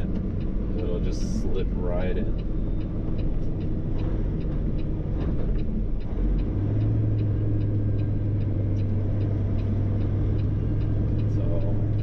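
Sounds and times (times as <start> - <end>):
light regular ticking: 0.0 - 12.0
truck diesel engine hum: 0.0 - 12.0.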